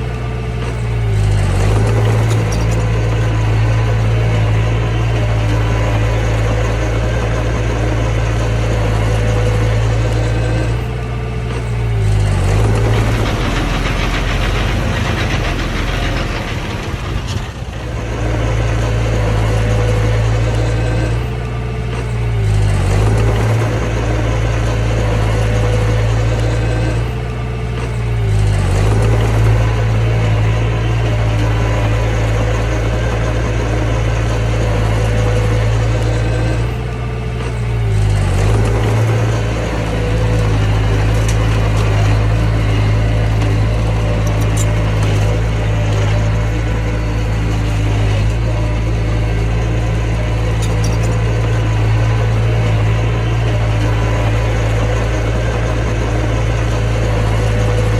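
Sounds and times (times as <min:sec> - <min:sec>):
bulldozer engine running: 0:00.0 - 0:57.9.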